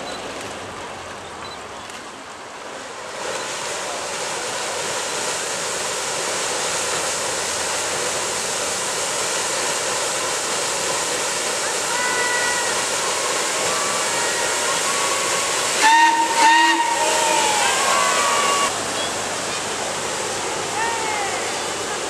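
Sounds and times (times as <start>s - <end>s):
paddle wheel churning water: 0.0s - 22.0s.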